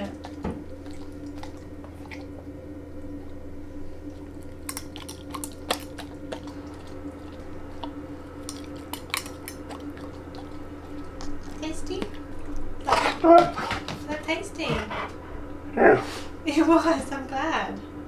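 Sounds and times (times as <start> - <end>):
dog chewing with mouth smacks: 0.0 - 15.3
low hum: 0.0 - 18.0.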